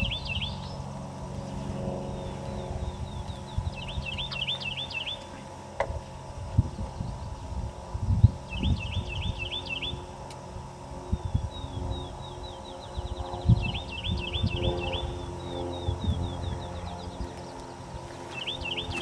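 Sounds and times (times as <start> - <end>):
songbird singing: 0.0 - 10.4, 11.0 - 19.0.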